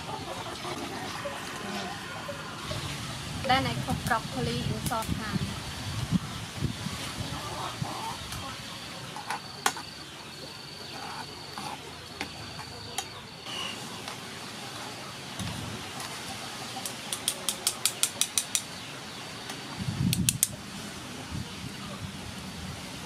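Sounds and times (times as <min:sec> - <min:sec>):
boiling water hiss: 0:00.0 - 0:23.0.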